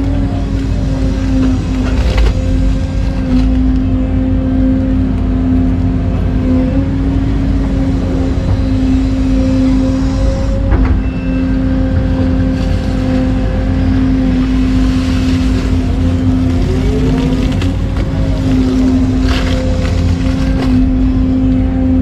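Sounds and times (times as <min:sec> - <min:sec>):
excavator engine and hydraulics: 0:00.0 - 0:22.0.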